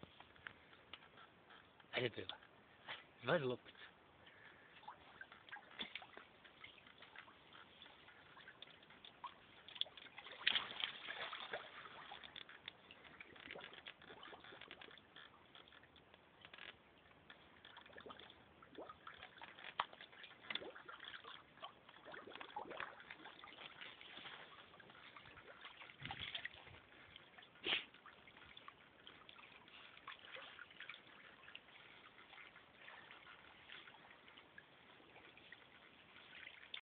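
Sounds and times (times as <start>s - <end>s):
pool water sloshing: 0.0s - 36.8s
water splashes: 0.0s - 36.8s.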